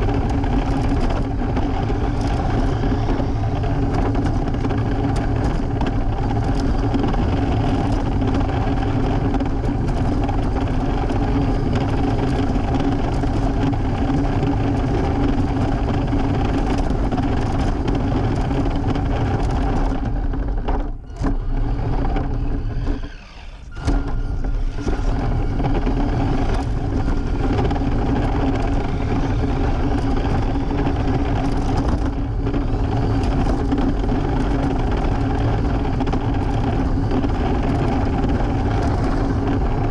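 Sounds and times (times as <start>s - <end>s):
electric motor whine: 0.0s - 39.9s
tyres rolling on pavement: 0.0s - 39.9s.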